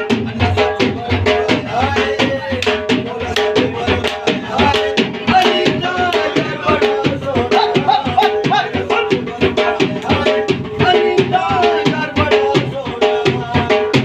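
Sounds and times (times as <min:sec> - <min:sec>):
barrel drum beaten fast: 0:00.0 - 0:14.0.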